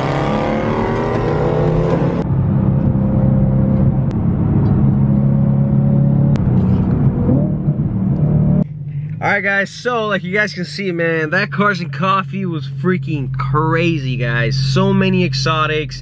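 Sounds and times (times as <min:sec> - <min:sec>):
car engine accelerating: 0:00.0 - 0:15.5.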